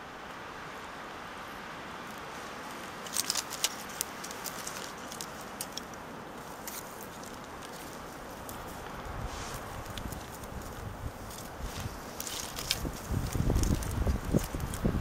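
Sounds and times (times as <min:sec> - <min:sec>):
small fire crackling: 0:00.0 - 0:15.0
steady background hiss: 0:00.0 - 0:15.0.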